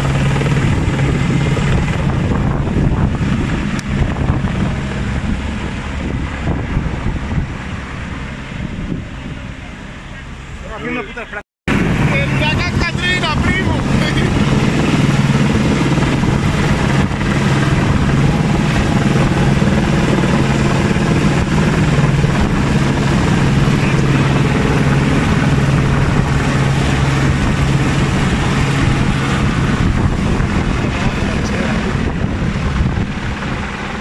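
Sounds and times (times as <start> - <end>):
helicopter flying overhead: 0.0 - 34.0.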